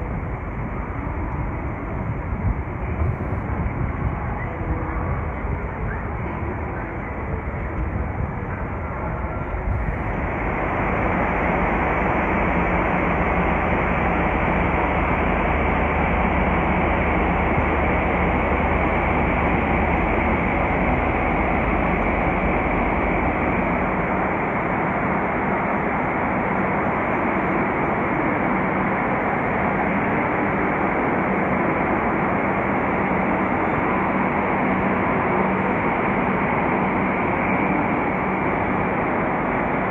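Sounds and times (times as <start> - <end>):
low engine-like hum: 0.0 - 39.9
trains rumbling in a station: 0.0 - 39.9.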